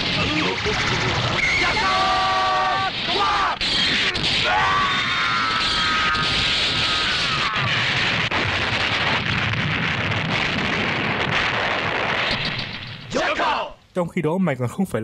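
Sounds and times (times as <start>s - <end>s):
sharp cracks: 0.0s - 13.5s
explosion blast rush: 0.0s - 13.7s.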